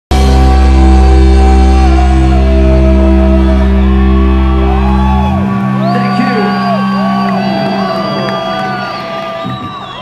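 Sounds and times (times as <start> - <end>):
live rock band playing: 0.1 - 10.0.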